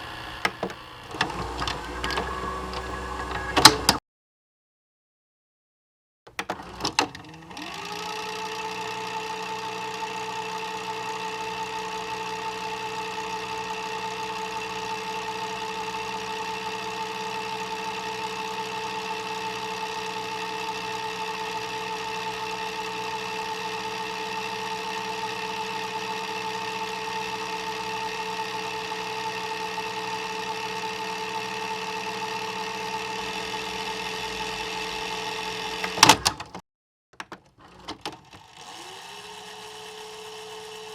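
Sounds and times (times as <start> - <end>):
tape player motor whine: 0.0 - 4.0, 6.3 - 36.6, 37.6 - 40.9.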